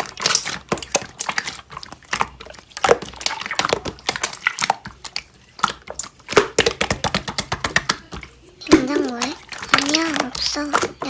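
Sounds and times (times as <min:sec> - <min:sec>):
slime clicking and crackling: 0:00.0 - 0:11.0.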